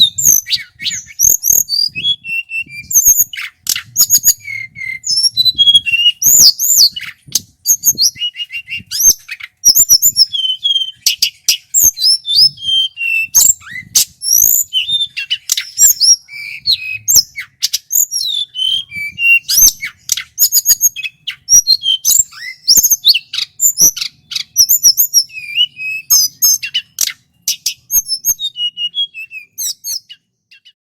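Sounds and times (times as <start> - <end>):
bird singing whistled phrases: 0.0 - 30.8.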